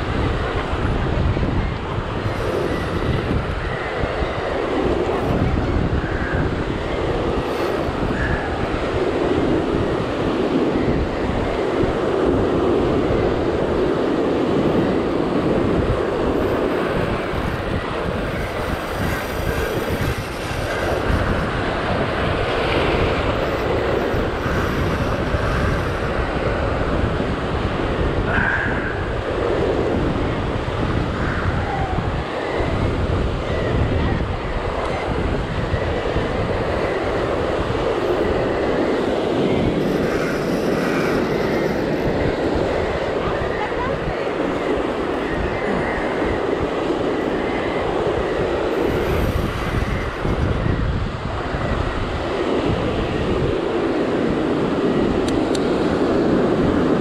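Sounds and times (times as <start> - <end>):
surf breaking on rocky shore: 0.0 - 57.0
wind buffeting microphone: 0.0 - 57.0.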